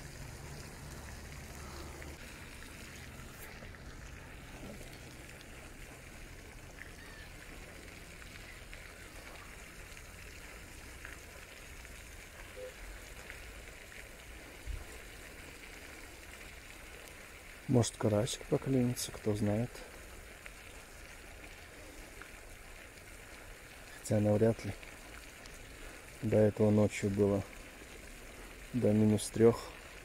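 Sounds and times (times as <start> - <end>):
splashing water hiss: 0.0 - 30.0.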